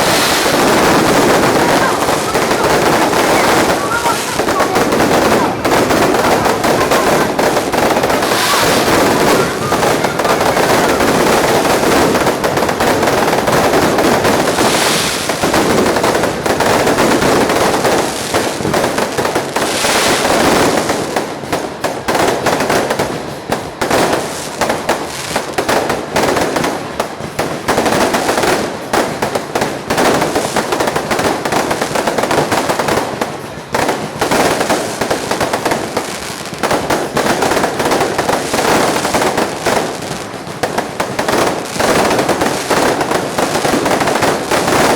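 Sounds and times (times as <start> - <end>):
fireworks crackling bangs: 0.0 - 44.9.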